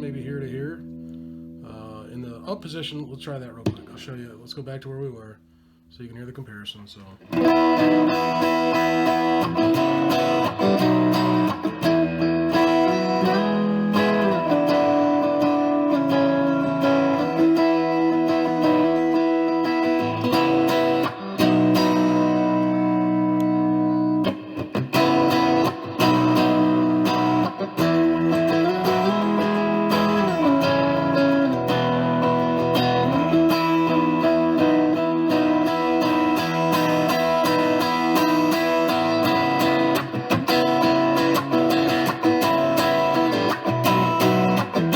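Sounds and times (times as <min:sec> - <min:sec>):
overdriven electric guitar: 0:00.0 - 0:01.7, 0:07.2 - 0:44.9.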